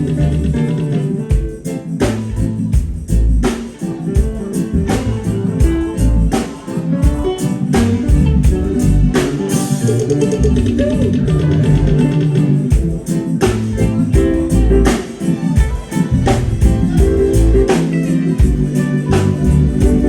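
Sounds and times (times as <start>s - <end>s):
heavy bass line: 0.0s - 3.5s, 4.1s - 6.4s, 7.0s - 15.0s, 15.6s - 20.0s
reggae band playing: 0.0s - 20.0s
drum hits: 1.3s - 20.0s.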